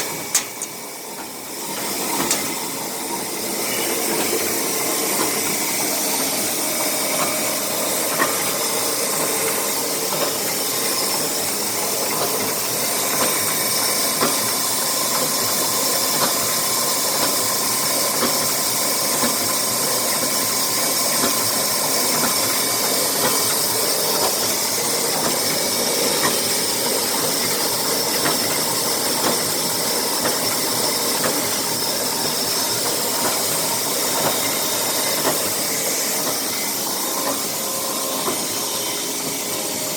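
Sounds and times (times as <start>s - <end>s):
machine hissing: 0.0s - 39.9s.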